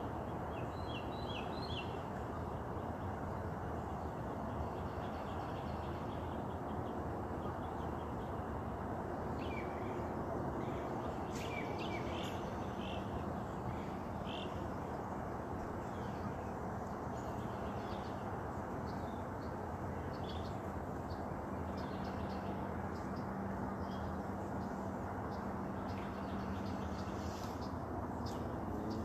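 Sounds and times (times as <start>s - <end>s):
wild birds chirping: 0.0s - 29.0s.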